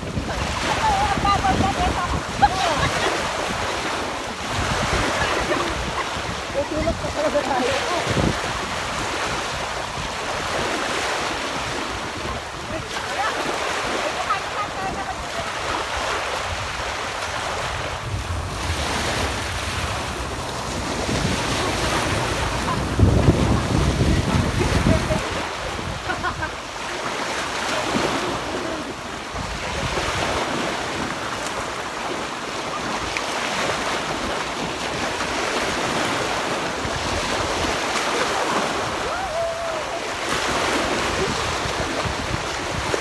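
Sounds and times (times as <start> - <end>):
small waves breaking on beach: 0.0 - 43.0
wind noise on microphone: 0.0 - 43.0.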